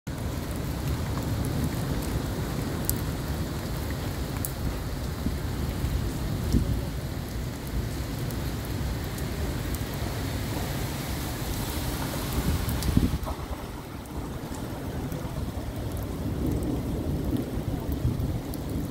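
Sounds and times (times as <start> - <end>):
heavy rain: 0.1 - 18.9.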